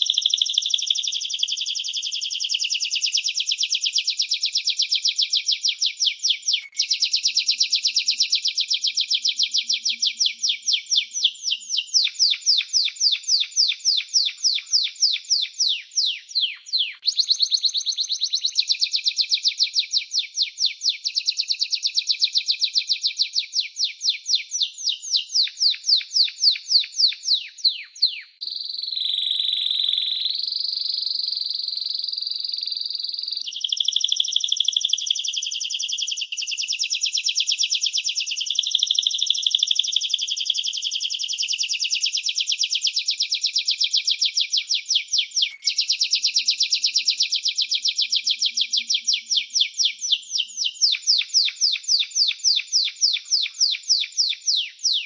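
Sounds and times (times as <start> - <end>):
canary singing trilled song: 0.0 - 55.0.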